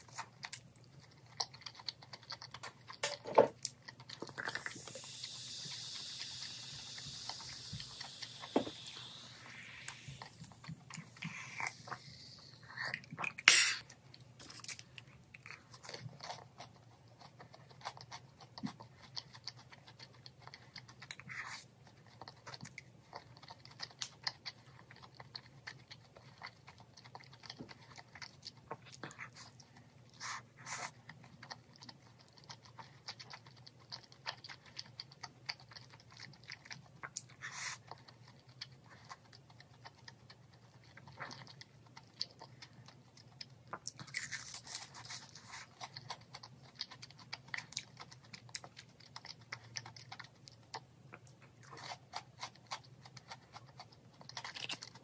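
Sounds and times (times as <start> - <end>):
chewing crispy fried chicken: 0.0 - 55.0.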